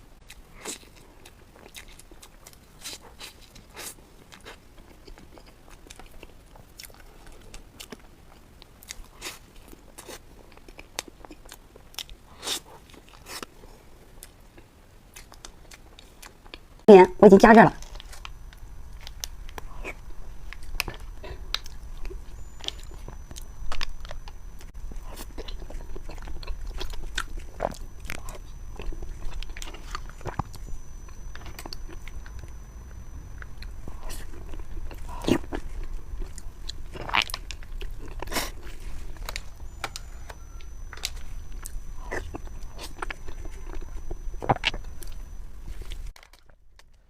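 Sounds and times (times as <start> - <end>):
chewing pastry with crunches: 0.0 - 16.9, 17.8 - 47.0.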